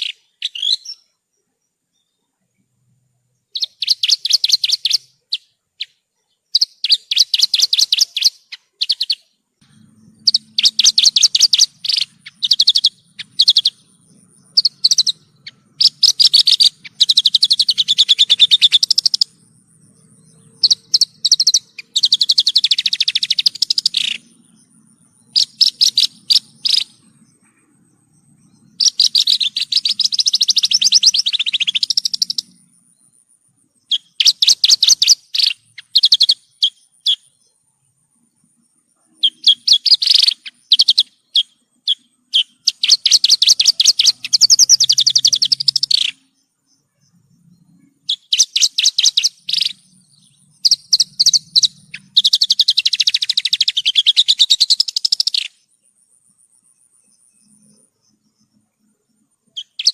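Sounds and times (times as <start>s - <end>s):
bush lark singing buzzy trills: 0.0s - 59.9s.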